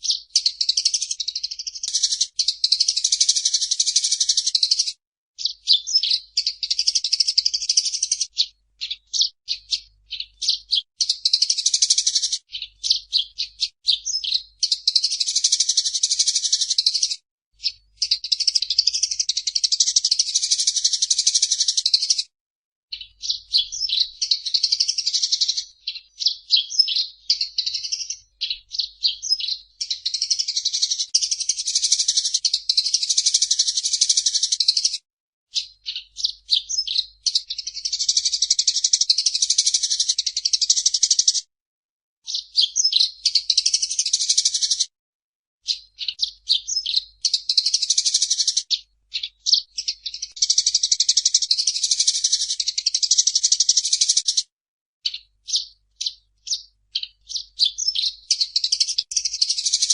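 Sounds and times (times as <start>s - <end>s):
sparrow chirping: 0.0s - 22.3s, 22.9s - 41.4s, 42.2s - 44.9s, 45.6s - 54.4s, 55.0s - 59.9s.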